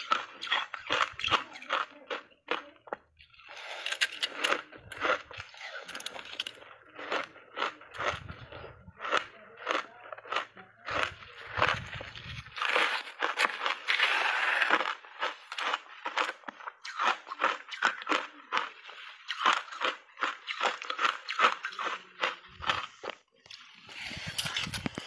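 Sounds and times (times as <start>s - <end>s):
chewing crunchy ice: 0.0s - 25.0s.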